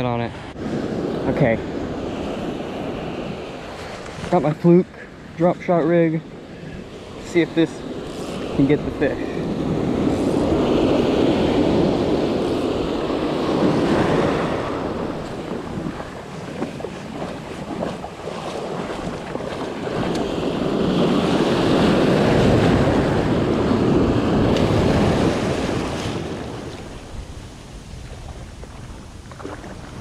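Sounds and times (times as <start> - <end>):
ocean surf washing up beach: 0.0 - 30.0.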